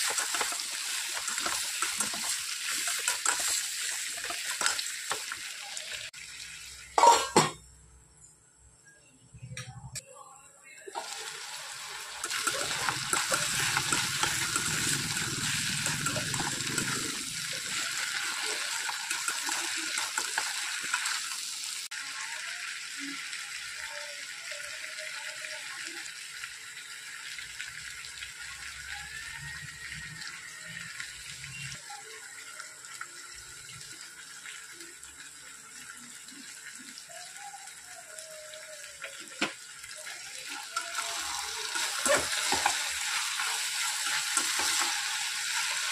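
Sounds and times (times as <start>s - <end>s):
vegetables sizzling in oil: 0.0s - 7.8s, 11.0s - 45.9s.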